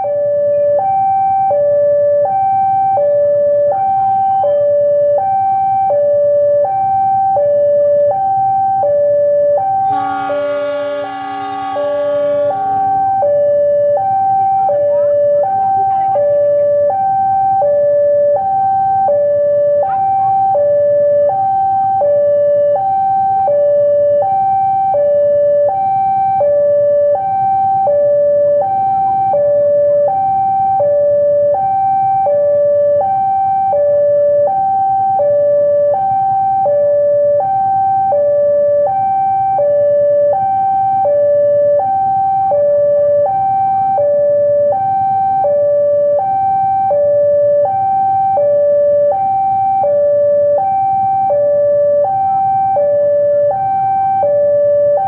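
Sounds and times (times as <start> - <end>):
two-tone level crossing alarm: 0.0 - 55.0.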